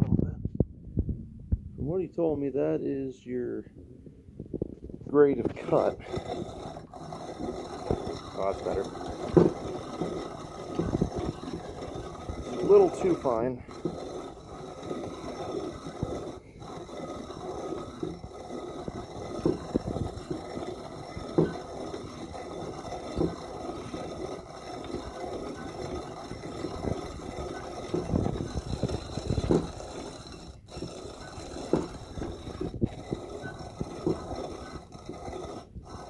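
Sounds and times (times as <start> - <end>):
coffee grinder grinding beans: 5.7 - 36.0.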